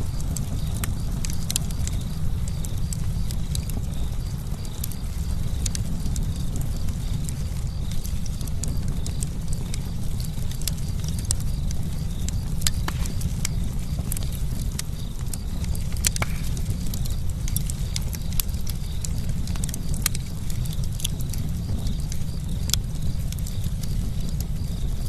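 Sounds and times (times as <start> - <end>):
campfire crackling and popping: 0.0 - 25.0
low steady fire rumble: 0.0 - 25.0.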